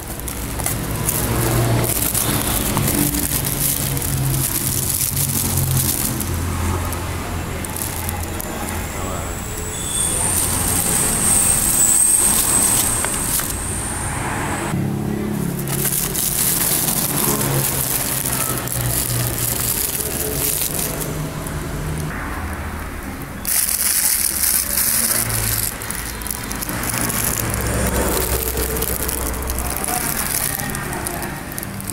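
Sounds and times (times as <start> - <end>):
cardboard rustling: 0.0 - 13.8, 15.4 - 22.1, 23.5 - 31.9
plastic wrapping crinkling: 0.0 - 14.4, 15.3 - 22.2, 23.0 - 31.9.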